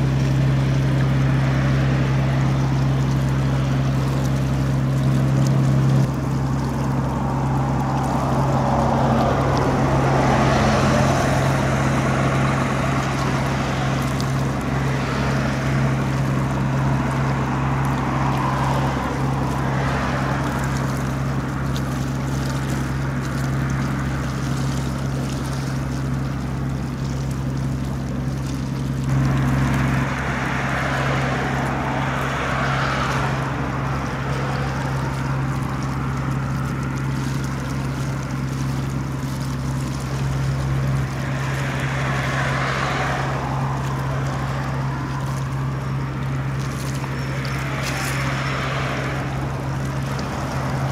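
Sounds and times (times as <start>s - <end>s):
ship engine droning: 0.0s - 50.9s
water wash: 0.0s - 50.9s.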